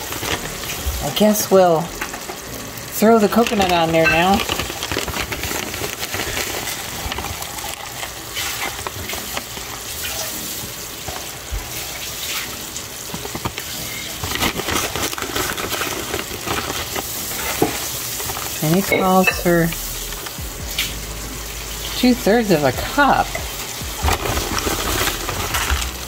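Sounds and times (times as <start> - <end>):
syrup sizzling and crackling: 0.0 - 26.0.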